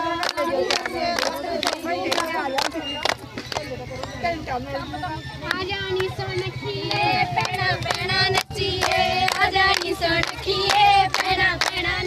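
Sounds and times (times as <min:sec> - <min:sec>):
women singing together: 0:00.0 - 0:12.0
quick steady hand clapping: 0:00.2 - 0:03.8, 0:05.4 - 0:12.0.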